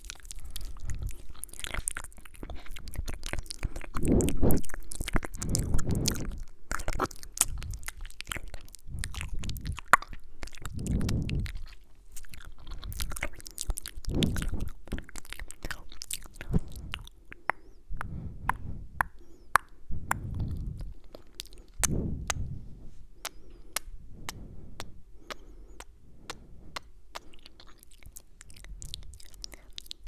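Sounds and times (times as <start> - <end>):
breathy whispering: 0.0 - 30.0
wet mouth clicks: 0.0 - 30.0.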